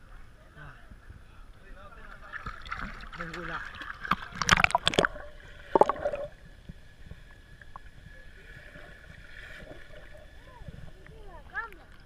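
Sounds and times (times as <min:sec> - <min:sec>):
water splashing and gurgling: 0:02.0 - 0:12.0.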